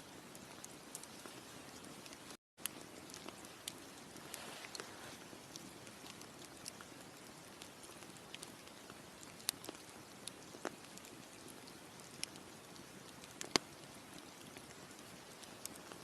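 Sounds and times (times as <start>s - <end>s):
campfire crackling and popping: 0.0s - 16.0s
soft steady hiss: 0.0s - 16.0s.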